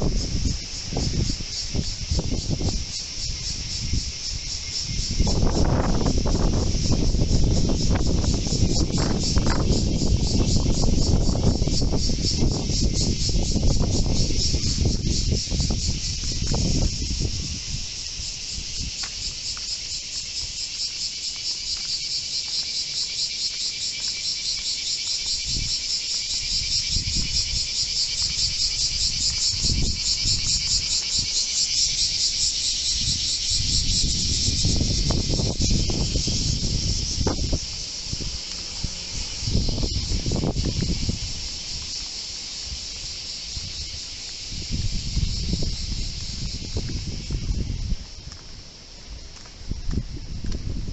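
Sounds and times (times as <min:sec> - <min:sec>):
storm wind buffeting microphone: 0:00.0 - 0:19.4, 0:25.3 - 0:42.0, 0:42.7 - 0:50.9
insects chorus pulsing: 0:00.0 - 0:50.9.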